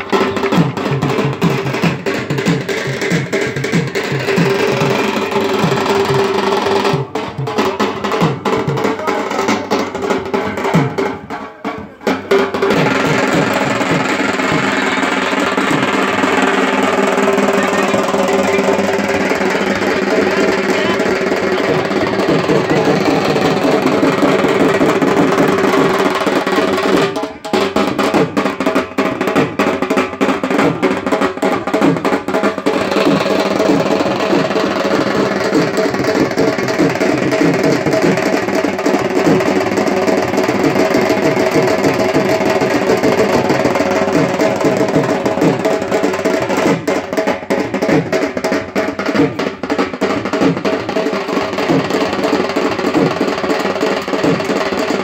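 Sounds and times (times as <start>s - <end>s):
loud music with drumming: 0.0s - 55.0s.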